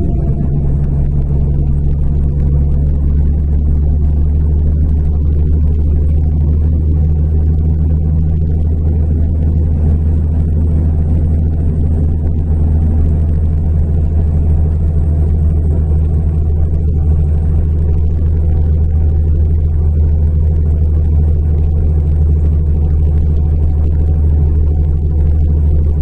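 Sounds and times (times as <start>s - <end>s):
bus engine drone: 0.0s - 26.0s
road and tyre noise: 0.0s - 26.0s.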